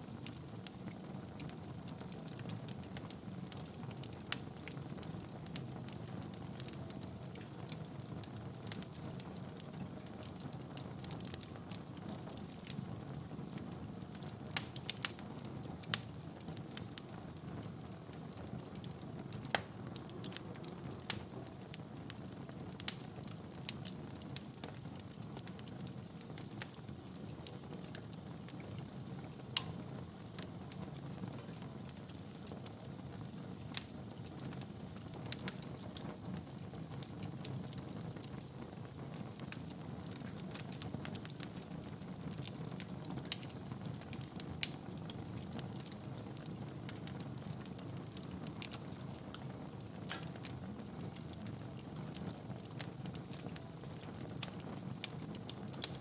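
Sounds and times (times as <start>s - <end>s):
fire crackles and pops: 0.0s - 56.0s.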